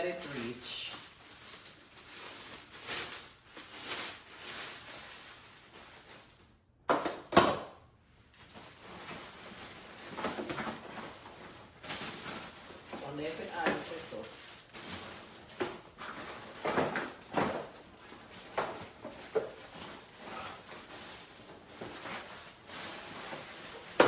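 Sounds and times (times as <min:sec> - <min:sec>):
packaging rustling and scraping: 0:00.0 - 0:07.3, 0:08.3 - 0:24.0.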